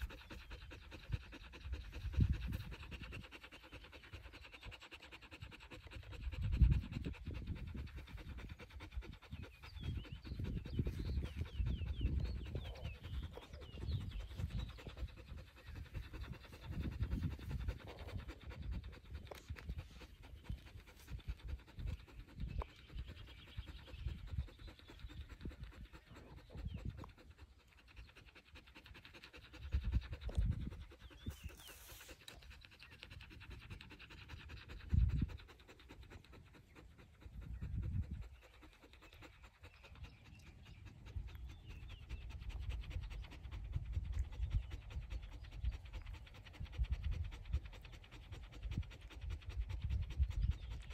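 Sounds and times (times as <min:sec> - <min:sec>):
wind buffeting microphone: 0:00.0 - 0:28.3, 0:29.3 - 0:50.9
dog panting: 0:00.0 - 0:50.9.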